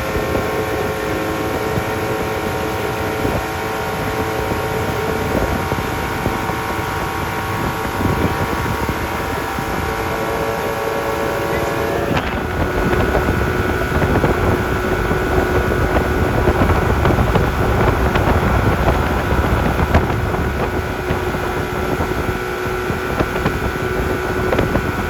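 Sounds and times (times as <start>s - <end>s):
motorboat engine droning: 0.0s - 25.0s
water rushing: 0.0s - 25.0s
wind buffeting microphone: 0.0s - 25.0s.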